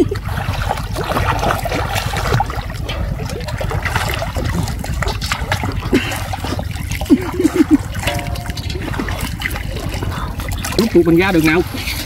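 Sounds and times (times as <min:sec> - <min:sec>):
steady low rumble: 0:00.0 - 0:12.0
water splashing and trickling: 0:00.0 - 0:12.0.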